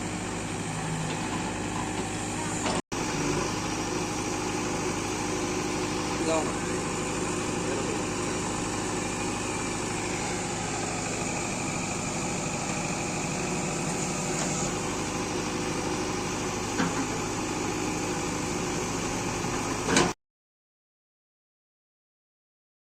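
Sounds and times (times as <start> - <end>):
diesel engine running: 0.0 - 20.2.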